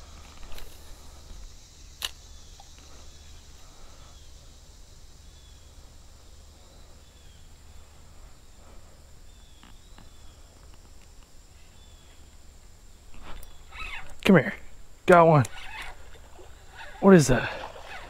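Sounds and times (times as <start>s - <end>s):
high-pitched insect drone: 0.0s - 10.7s, 11.5s - 18.0s.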